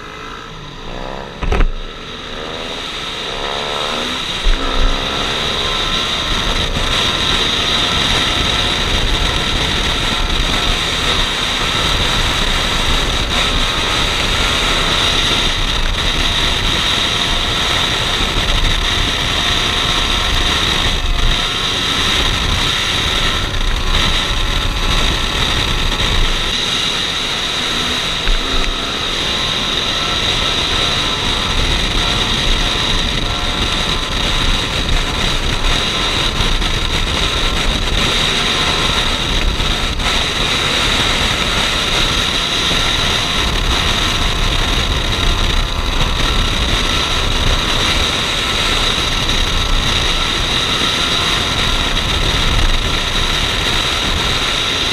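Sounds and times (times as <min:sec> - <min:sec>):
motorcycle engine cruising: 0:00.0 - 0:54.9
wind on microphone: 0:00.0 - 0:54.9.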